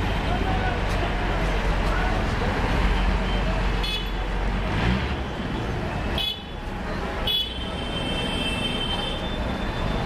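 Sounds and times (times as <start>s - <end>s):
traffic noise: 0.0s - 10.0s.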